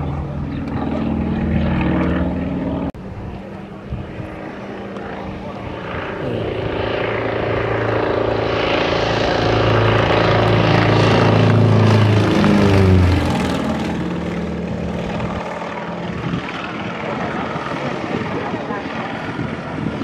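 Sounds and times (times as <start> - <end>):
propeller plane flying overhead: 0.0 - 20.0.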